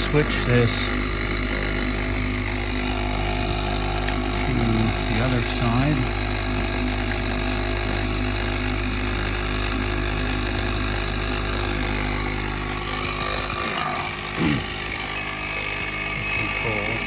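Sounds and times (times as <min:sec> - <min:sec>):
air compressor motor hum: 0:00.0 - 0:17.0.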